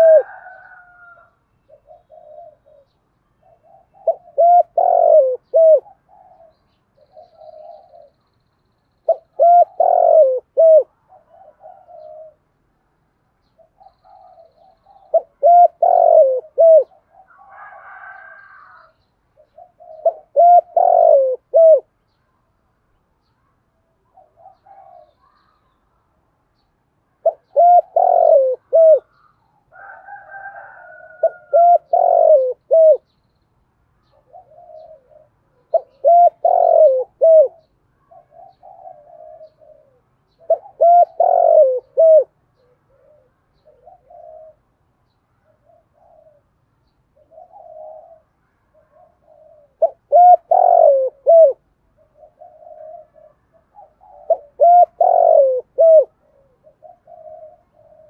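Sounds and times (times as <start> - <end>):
dove cooing: 0.0 - 8.2, 9.0 - 12.6, 13.5 - 22.1, 24.0 - 25.7, 27.2 - 33.2, 34.0 - 44.8, 45.4 - 58.0.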